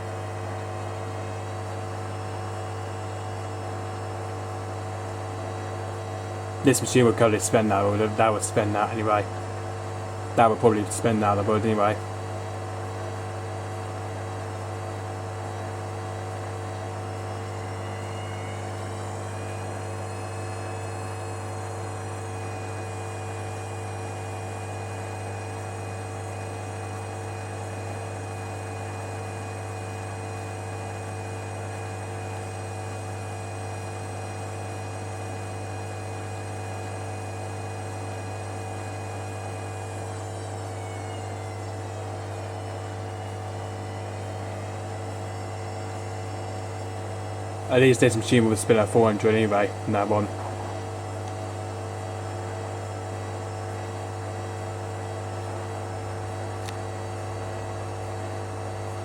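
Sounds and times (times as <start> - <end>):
washing machine motor whine: 0.0 - 59.0.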